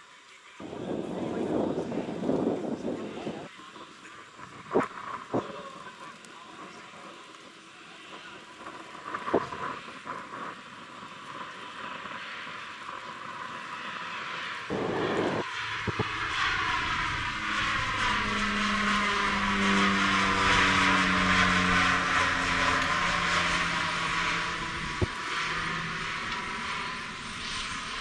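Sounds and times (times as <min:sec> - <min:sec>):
turboprop aircraft droning: 0:00.5 - 0:28.0.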